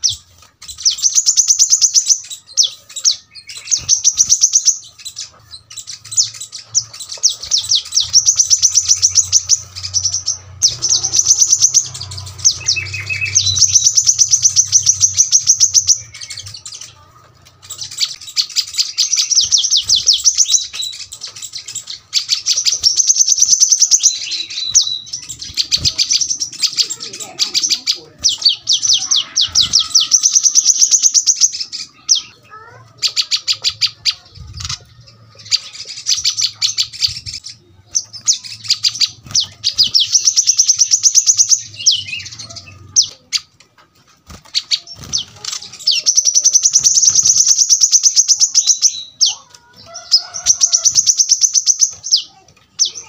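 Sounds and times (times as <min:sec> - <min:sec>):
bird singing rapid high notes: 0:00.0 - 0:43.6, 0:44.2 - 0:49.4.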